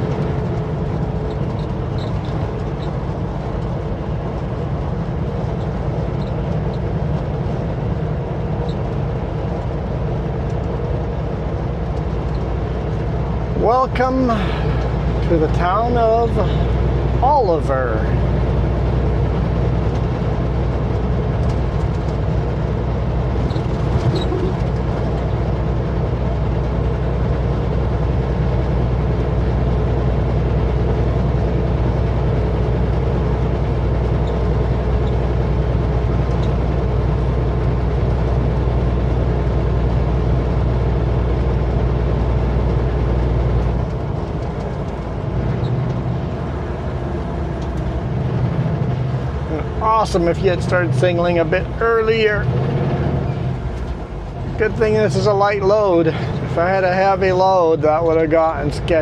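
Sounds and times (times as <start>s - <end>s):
road noise: 0.0s - 59.0s
truck diesel engine pulling: 0.0s - 59.0s.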